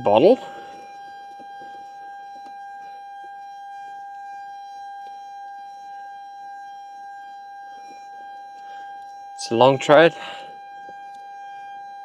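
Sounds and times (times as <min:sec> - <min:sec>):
high-pitched electrical buzz: 0:00.0 - 0:12.0.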